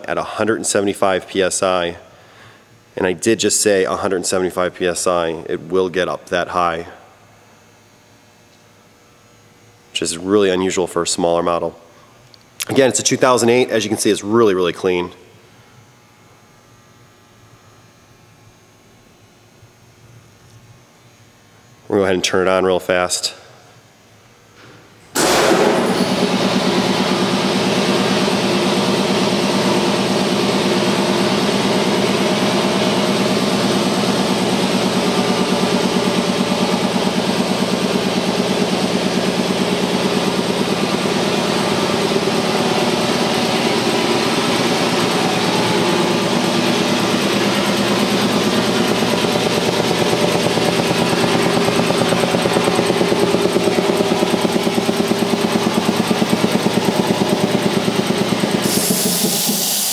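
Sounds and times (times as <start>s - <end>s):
air compressor running: 0.0s - 20.8s, 21.4s - 59.9s.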